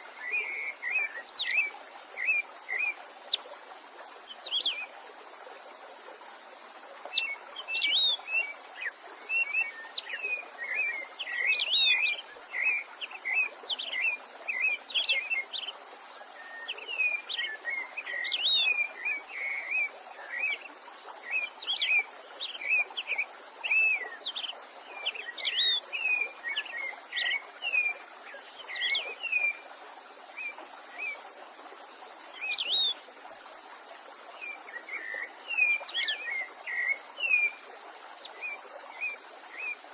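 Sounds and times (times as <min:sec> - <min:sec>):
songbird singing: 0:00.0 - 0:05.0, 0:07.0 - 0:33.1, 0:34.3 - 0:39.9
running stream: 0:00.0 - 0:39.9.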